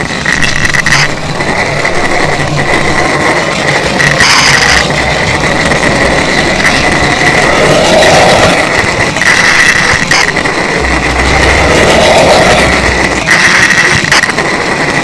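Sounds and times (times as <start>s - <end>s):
high whine: 0.0s - 15.0s
model train whirring rumble: 0.0s - 15.0s.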